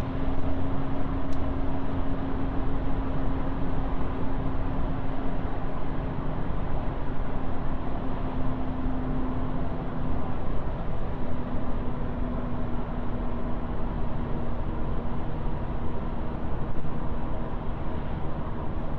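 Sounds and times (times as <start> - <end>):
road noise: 0.0 - 18.9.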